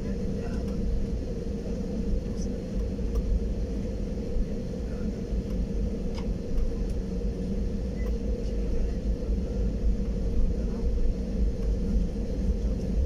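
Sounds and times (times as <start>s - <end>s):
jet engine hum in cabin: 0.0s - 13.0s.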